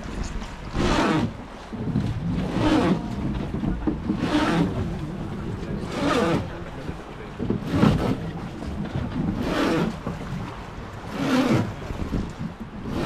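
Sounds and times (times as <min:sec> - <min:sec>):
oar strokes splashing water: 0:00.0 - 0:13.0.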